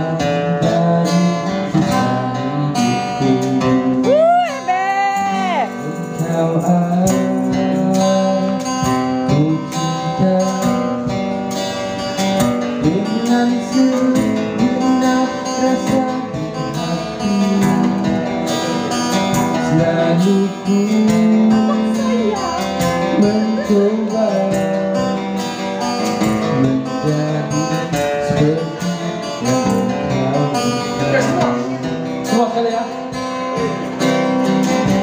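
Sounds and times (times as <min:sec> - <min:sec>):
cajon beats: 0:00.0 - 0:35.0
man singing: 0:00.0 - 0:35.0
strummed acoustic guitar: 0:00.0 - 0:35.0.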